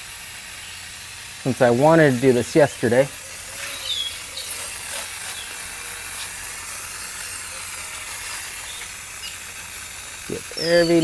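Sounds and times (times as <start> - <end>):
aerosol can spraying hiss: 0.0 - 11.0.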